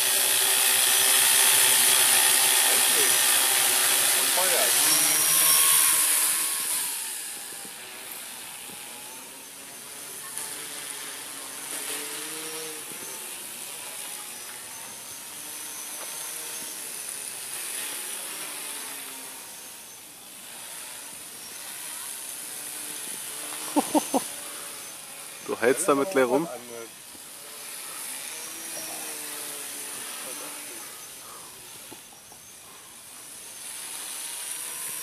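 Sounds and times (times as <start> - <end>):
drone motors buzzing: 0.0 - 35.0
steady high hiss: 0.0 - 35.0.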